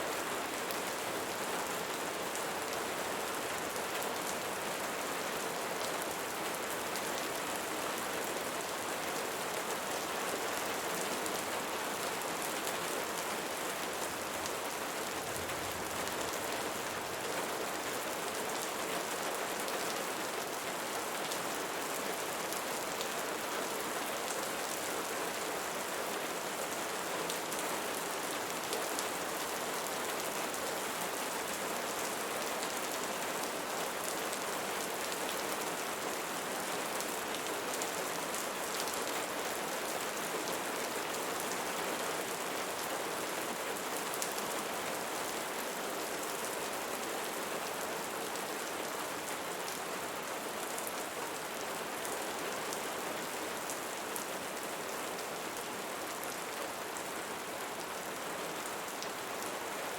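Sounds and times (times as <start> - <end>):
steady rain hiss and patter: 0.0 - 59.9.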